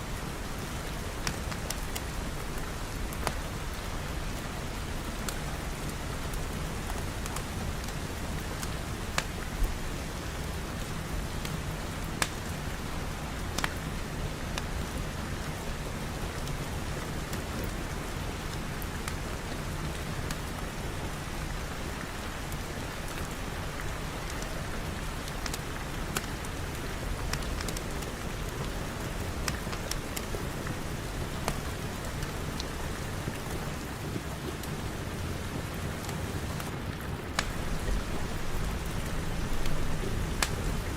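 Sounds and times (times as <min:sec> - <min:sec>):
steady rainfall: 0:00.0 - 0:40.9
rain drop ticks: 0:00.1 - 0:34.8, 0:36.0 - 0:40.9.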